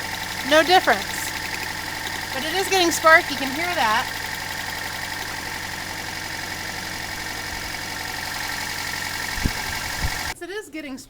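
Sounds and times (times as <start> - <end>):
car engine idling rough: 0.0 - 10.4.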